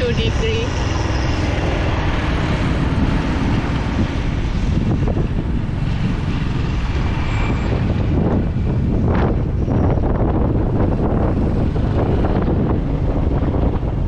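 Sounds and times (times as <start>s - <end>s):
traffic: 0.0s - 14.0s
wind on microphone: 0.0s - 14.0s.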